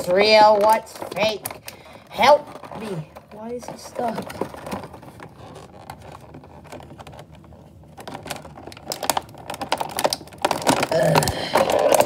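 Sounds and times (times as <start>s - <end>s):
plastic packaging clicking and crackling: 0.0s - 12.0s.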